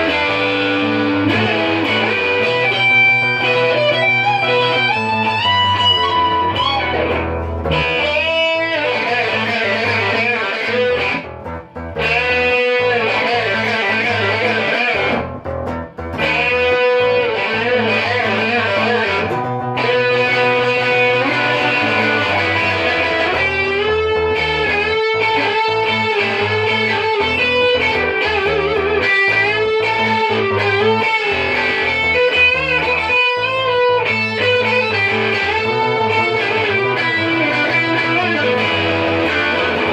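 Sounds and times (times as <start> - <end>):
bass line: 0.0 - 39.9
electric guitar music: 0.0 - 39.9.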